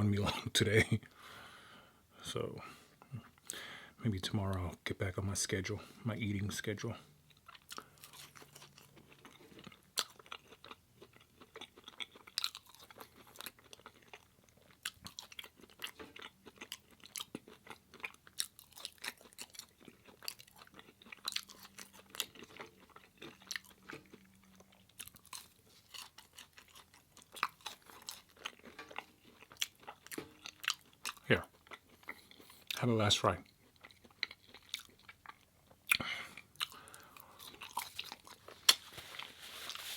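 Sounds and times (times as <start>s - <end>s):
close chewing with crunches: 7.0s - 39.9s.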